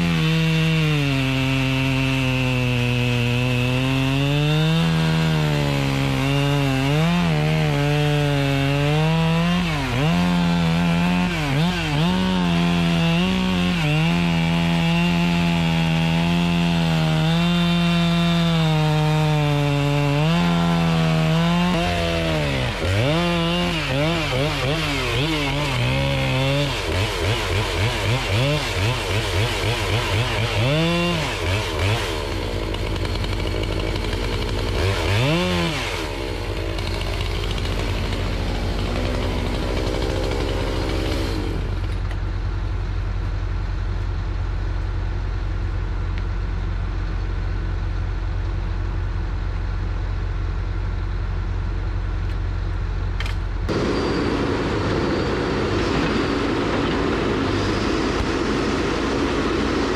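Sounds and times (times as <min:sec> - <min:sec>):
chainsaw cutting: 0:00.0 - 0:42.3, 0:53.2 - 0:59.9
diesel engine running: 0:00.0 - 0:59.9.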